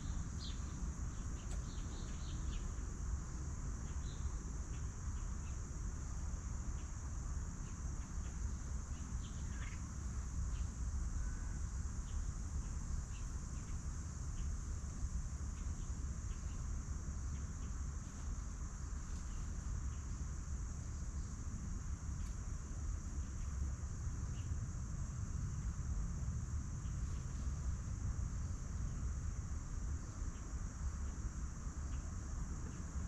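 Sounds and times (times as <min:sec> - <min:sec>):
faint ticks of foraging chickens: 0:00.0 - 0:33.0.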